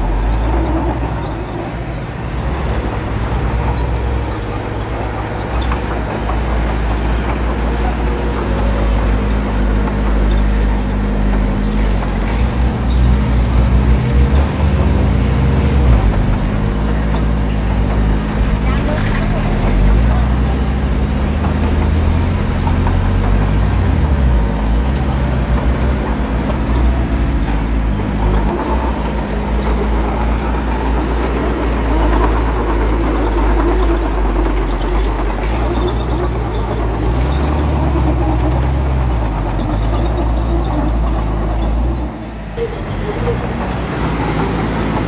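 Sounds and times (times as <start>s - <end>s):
bulldozer diesel engine: 0.0s - 45.0s.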